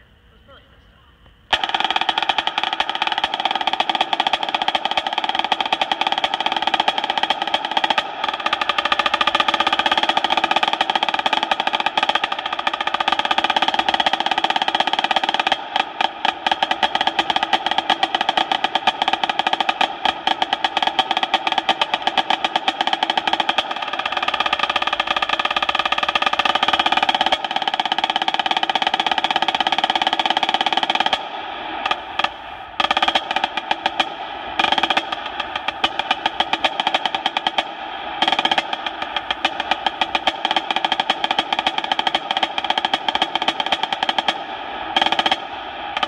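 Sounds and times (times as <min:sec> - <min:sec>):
snare drum rolls: 0:01.5 - 0:46.0.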